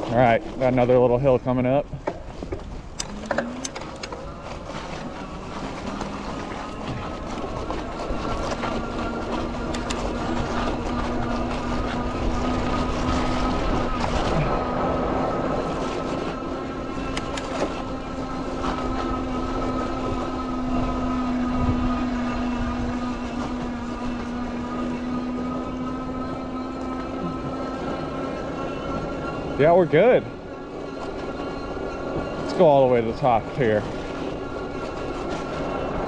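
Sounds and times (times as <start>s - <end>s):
electric bike motor whine: 0.0s - 36.0s
tyres rolling through snow: 0.0s - 36.0s
wind: 0.0s - 36.0s.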